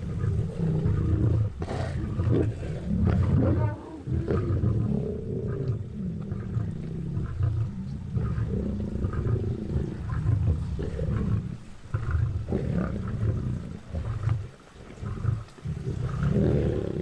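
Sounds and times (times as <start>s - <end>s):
lions growling low: 0.0s - 17.0s.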